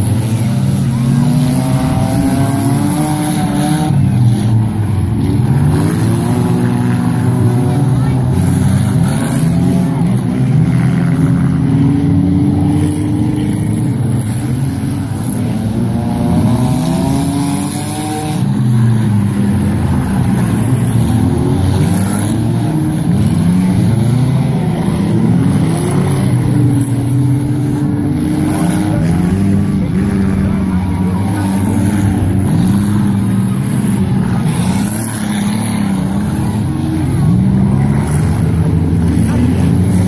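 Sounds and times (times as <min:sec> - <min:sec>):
race car engines revving: 0:00.0 - 0:40.0.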